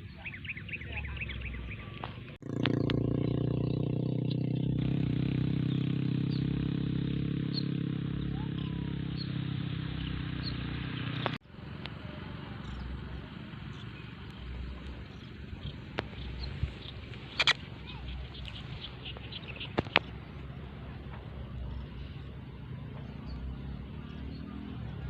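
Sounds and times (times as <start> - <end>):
bird chirps: 0.0 - 4.7, 5.5 - 11.4, 12.5 - 25.0
engine idling: 0.9 - 25.0.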